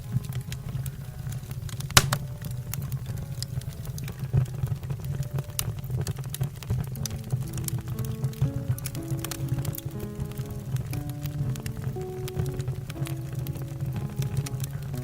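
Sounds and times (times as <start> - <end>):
firewood crackling and popping: 0.0 - 15.0
low rumble of burning fire: 0.0 - 15.0.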